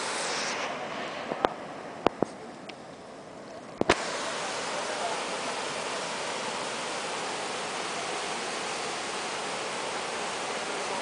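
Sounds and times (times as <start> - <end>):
waterfall rushing over rocks: 0.0 - 2.3, 3.2 - 11.0.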